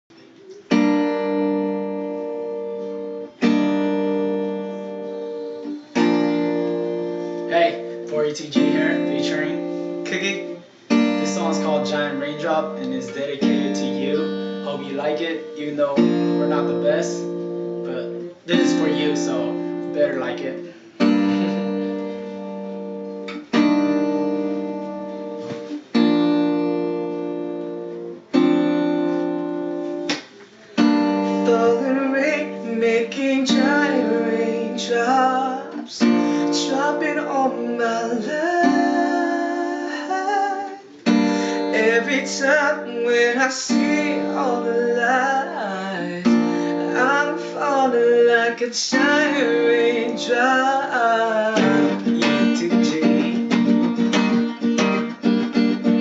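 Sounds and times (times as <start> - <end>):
acoustic guitar chords ringing: 0.0 - 56.0.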